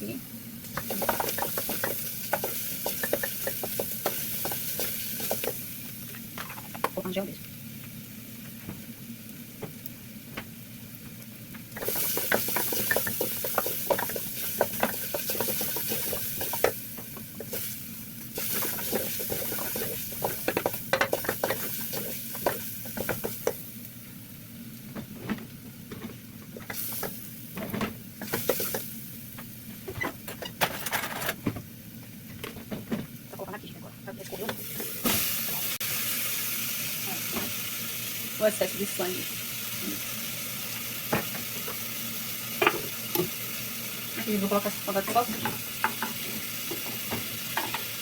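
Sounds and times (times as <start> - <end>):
meat and onion sizzling: 0.0 - 48.0.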